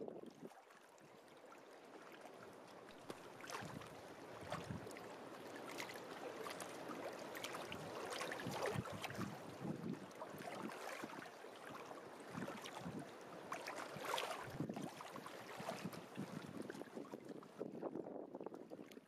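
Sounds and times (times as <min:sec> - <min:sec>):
small water splashes: 0:00.0 - 0:19.0
water lapping and gurgling: 0:00.0 - 0:19.0.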